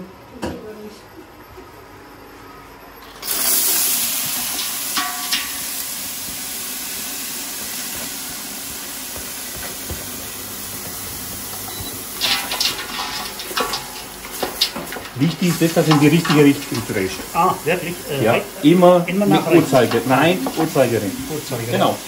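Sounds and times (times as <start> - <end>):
onions sizzling in hot oil: 3.2 - 22.0.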